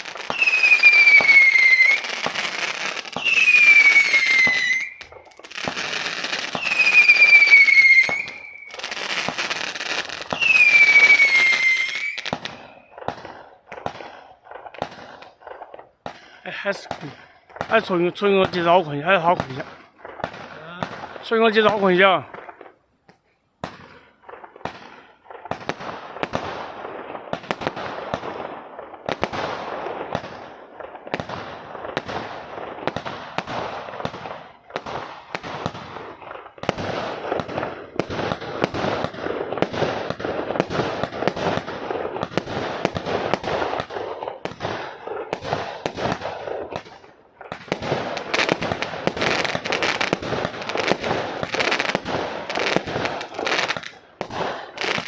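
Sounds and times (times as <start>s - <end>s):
fireworks barrage firing: 0.0s - 55.0s.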